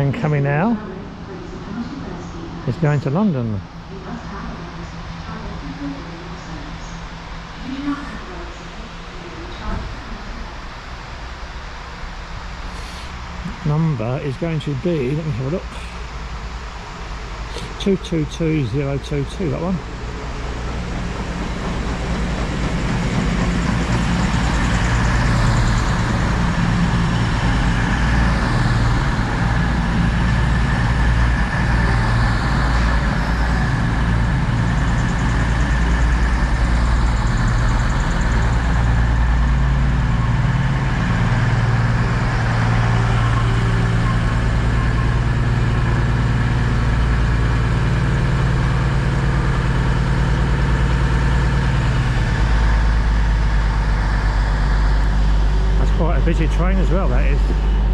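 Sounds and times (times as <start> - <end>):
diesel train engines droning: 0.0 - 57.9.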